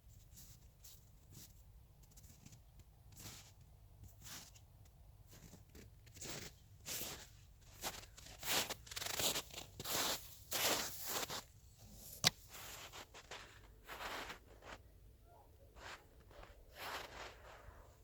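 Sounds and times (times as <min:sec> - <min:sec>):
footsteps crunching on snow: 0:00.3 - 0:15.0, 0:15.6 - 0:18.0.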